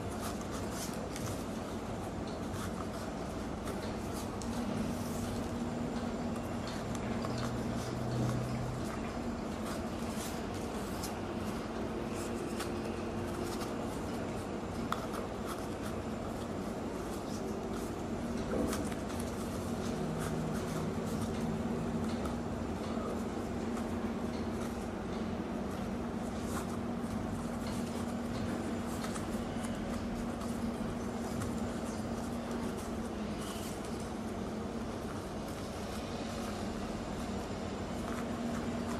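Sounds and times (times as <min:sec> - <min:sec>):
leaf strips rustling and clicking: 0:00.0 - 0:38.9
steady low hum: 0:00.0 - 0:38.9.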